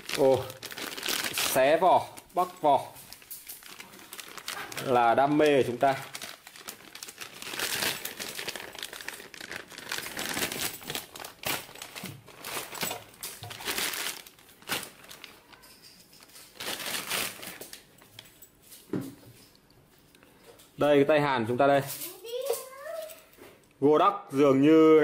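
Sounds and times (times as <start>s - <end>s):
plastic wrapping crinkling: 0.0s - 20.2s.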